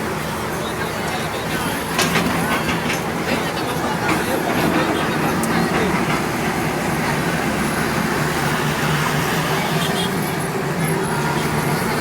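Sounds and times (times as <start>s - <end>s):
motor vehicle engine din: 0.0s - 12.0s.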